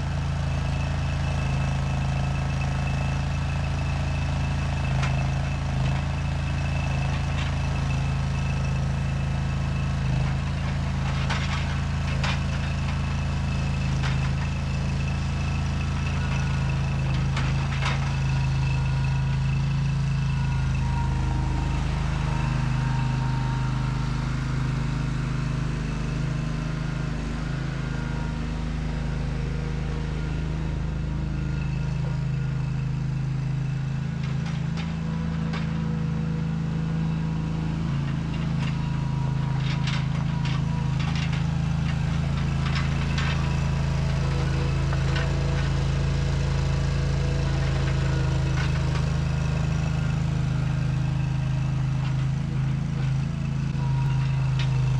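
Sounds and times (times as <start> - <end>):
skid steer engine running: 0.0 - 54.9.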